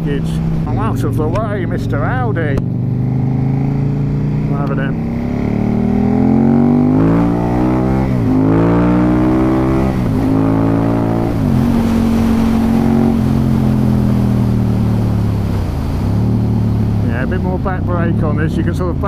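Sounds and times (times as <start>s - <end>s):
wind noise: 0.0s - 17.1s
motorcycle engine accelerating: 0.0s - 19.0s.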